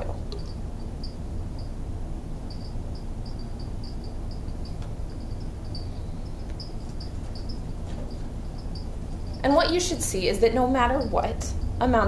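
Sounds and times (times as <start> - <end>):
cricket chirping: 0.0 - 12.0
low hum: 0.0 - 12.0.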